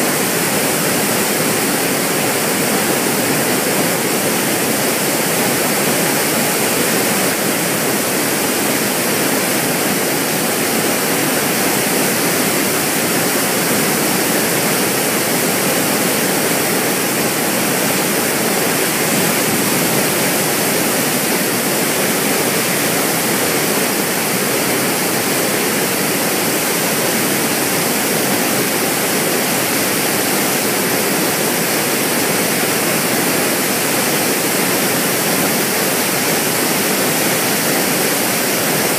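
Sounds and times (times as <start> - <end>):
dam water rushing: 0.0 - 38.9.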